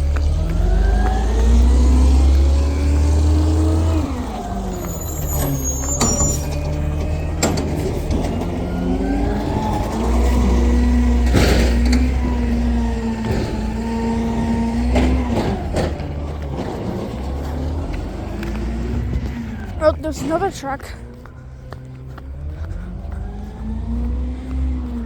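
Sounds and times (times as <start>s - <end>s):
garbage truck engine revving: 0.0s - 21.2s, 22.3s - 25.0s.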